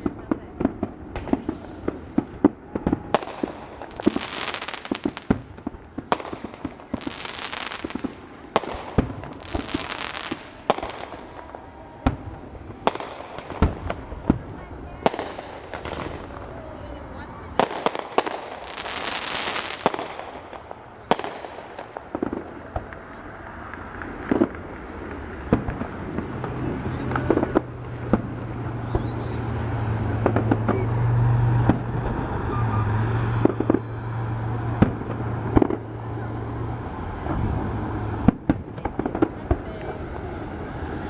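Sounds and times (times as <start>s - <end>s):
fireworks bangs: 0.0s - 41.0s.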